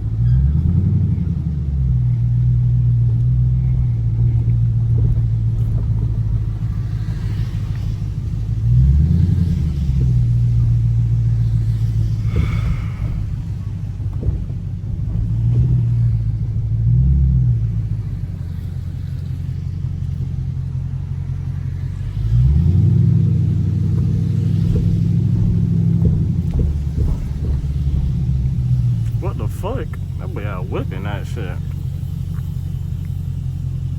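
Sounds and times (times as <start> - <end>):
car engine rumbling and accelerating: 0.0 - 33.9.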